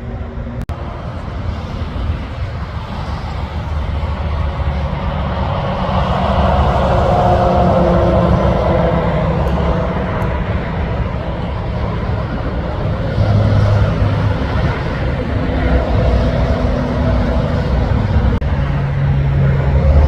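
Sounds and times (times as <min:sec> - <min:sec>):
heavy truck engine running: 0:00.0 - 0:20.0.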